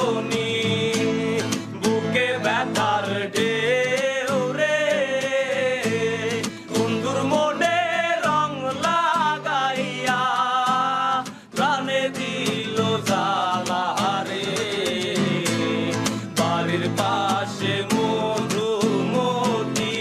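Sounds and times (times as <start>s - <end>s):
person singing with accompaniment: 0.0s - 20.0s.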